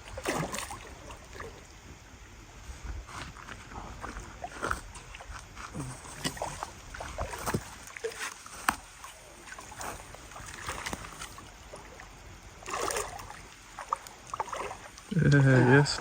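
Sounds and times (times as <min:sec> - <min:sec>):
water splashing and swirling: 0:00.0 - 0:02.6, 0:03.9 - 0:16.0.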